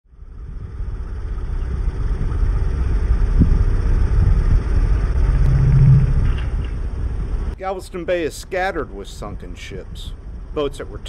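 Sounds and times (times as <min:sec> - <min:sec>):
boat engine rumbling: 0:00.1 - 0:11.0.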